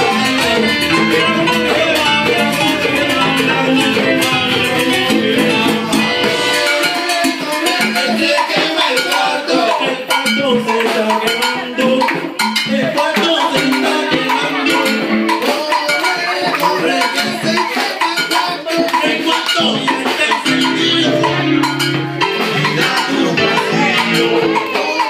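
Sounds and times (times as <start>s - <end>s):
live band playing salsa: 0.0s - 25.0s.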